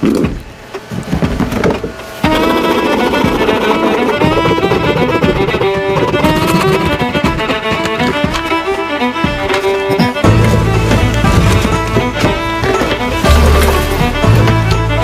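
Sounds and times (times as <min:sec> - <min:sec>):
lower musical accompaniment: 0:00.3 - 0:15.0
fast violin melody: 0:02.2 - 0:15.0.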